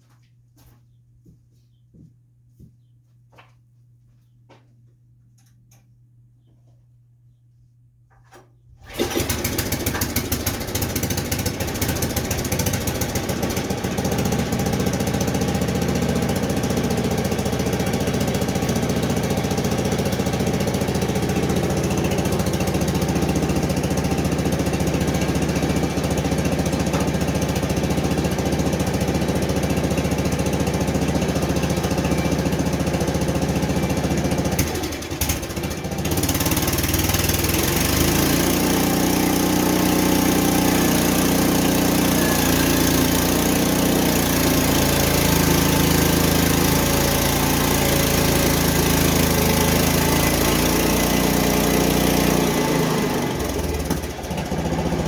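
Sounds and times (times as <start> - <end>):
small gas engine running: 8.8 - 55.0.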